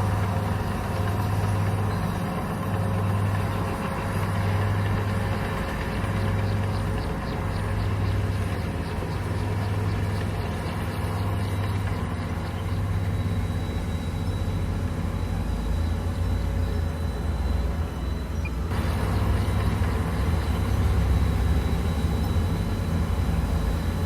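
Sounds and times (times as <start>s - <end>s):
bulldozer diesel engine drone: 0.0s - 24.0s.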